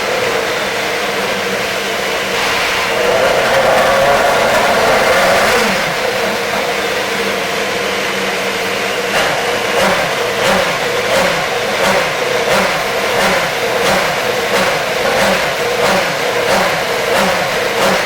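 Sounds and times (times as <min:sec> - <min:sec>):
race car engine blipping: 0:00.0 - 0:18.0.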